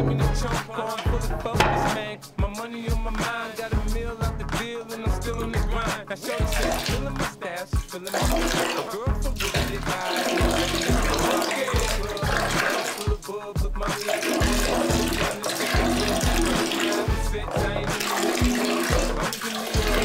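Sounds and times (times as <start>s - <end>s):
running water: 0.0s - 2.4s, 5.7s - 20.0s
music with steady beat: 0.0s - 20.0s.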